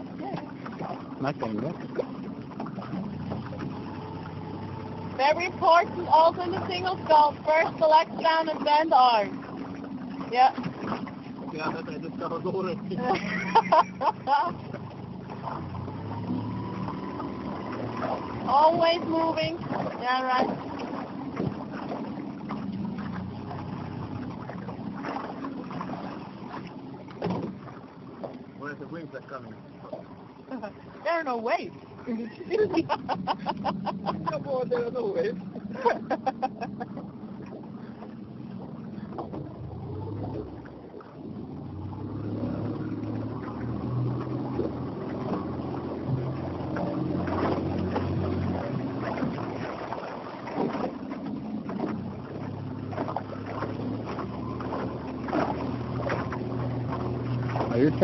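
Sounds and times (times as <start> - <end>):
motorboat engine running: 0.0 - 58.0
water splashing against hull: 0.0 - 58.0.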